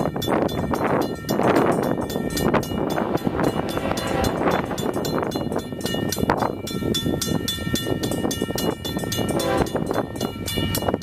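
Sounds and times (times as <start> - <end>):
approaching train rumble: 0.0 - 10.9
wind noise on microphone: 0.0 - 11.0.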